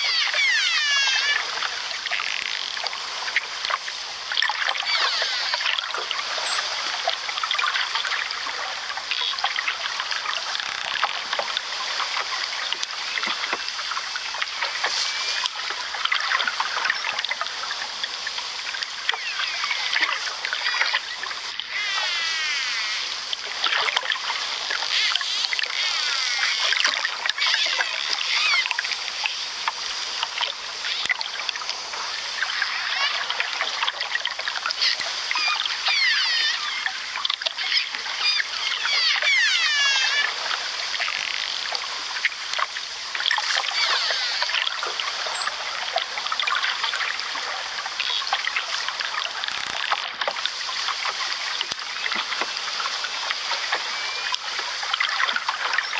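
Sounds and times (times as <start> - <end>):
flowing water: 0.0 - 55.9.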